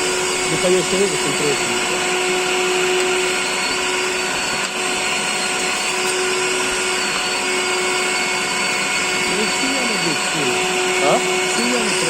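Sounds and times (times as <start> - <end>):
industrial vacuum cleaner running: 0.0 - 12.0.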